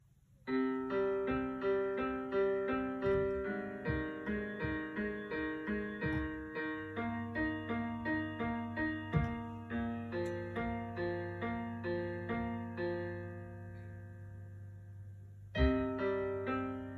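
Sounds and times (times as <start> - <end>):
slow piano melody: 0.0 - 16.9.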